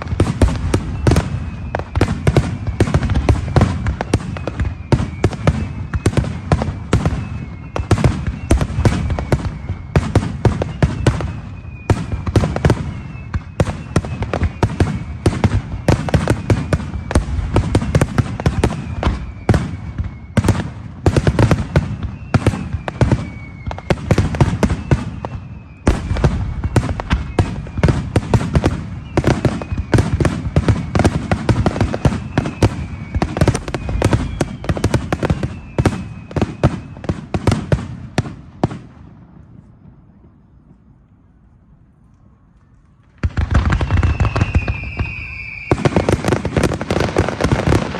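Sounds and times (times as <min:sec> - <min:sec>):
fireworks cracks and booms: 0:00.0 - 0:40.2, 0:43.2 - 0:47.9
fireworks falling whistles: 0:00.0 - 0:41.4, 0:42.6 - 0:47.9.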